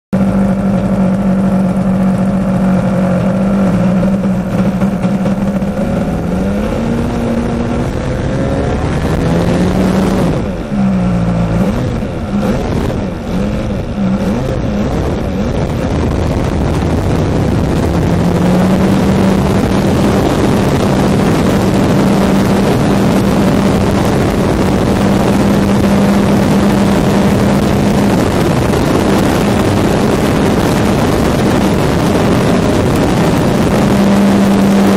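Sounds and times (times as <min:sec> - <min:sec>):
model airplane engine revving: 0:00.2 - 0:34.9
rushing air noise: 0:00.2 - 0:34.9.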